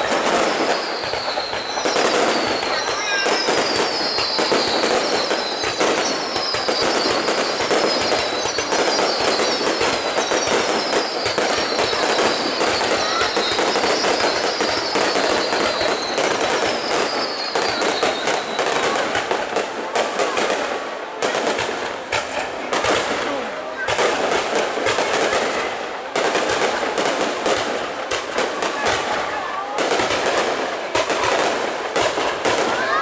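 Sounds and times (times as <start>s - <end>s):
fireworks crackling and popping: 0.0s - 33.0s.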